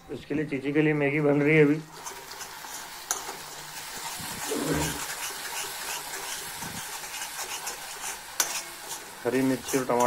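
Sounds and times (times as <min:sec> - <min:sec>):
vegetables sizzling in hot oil: 0:01.0 - 0:10.0.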